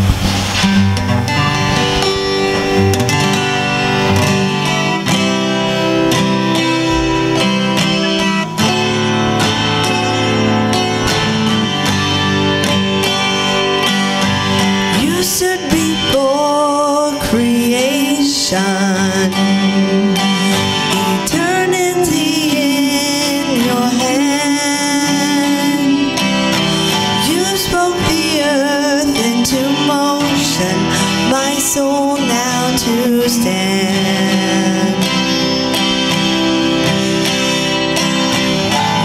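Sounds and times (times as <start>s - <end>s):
acoustic guitar strumming: 0.0s - 39.0s
instruments playing underneath: 0.0s - 39.0s
person singing: 2.0s - 36.6s.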